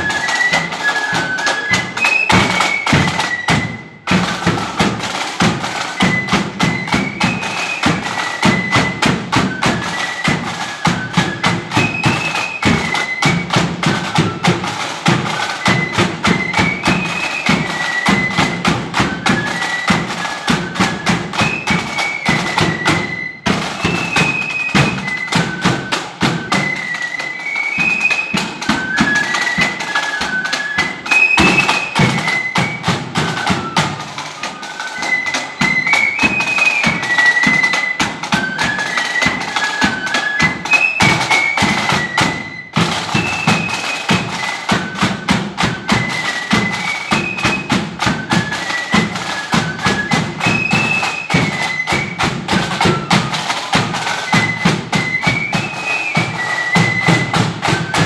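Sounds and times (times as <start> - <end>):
flutes playing in unison: 0.0 - 58.0
rattling snare drums: 0.0 - 58.0.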